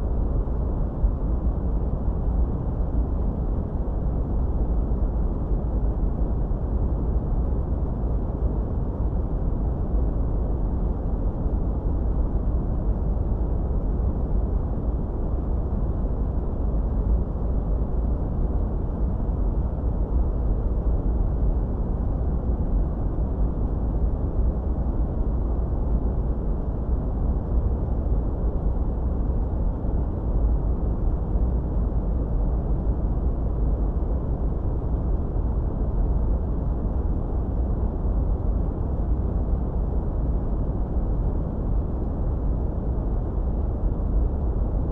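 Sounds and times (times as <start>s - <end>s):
deep filtered white noise: 0.0s - 44.9s.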